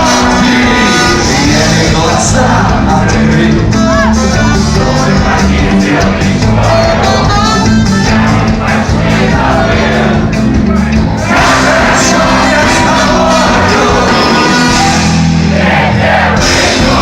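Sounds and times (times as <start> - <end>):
bass guitar: 0.0 - 17.0
loud live rock band: 0.0 - 17.0
sung or shouted vocals: 0.0 - 17.0.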